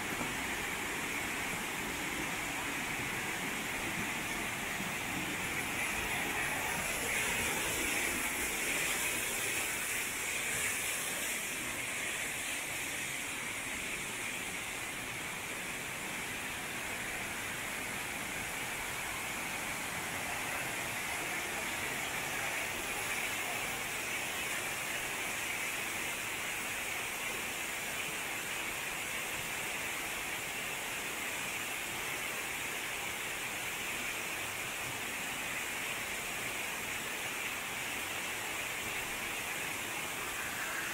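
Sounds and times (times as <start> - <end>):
waterfall rushing: 0.0 - 30.2, 31.4 - 40.9
stream running: 0.0 - 40.9.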